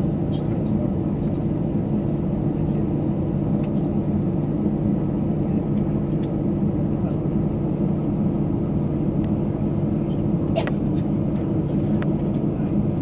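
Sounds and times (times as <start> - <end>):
aircraft cabin drone: 0.0 - 13.0.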